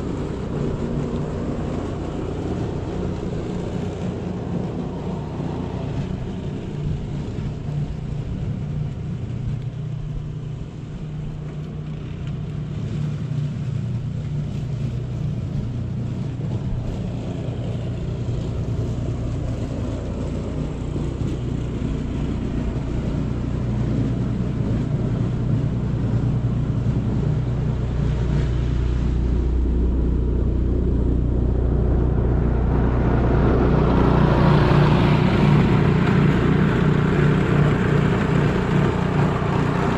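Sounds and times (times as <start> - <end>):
rushing noise: 0.0 - 9.4, 15.2 - 39.9
vehicle engine humming: 0.0 - 39.9.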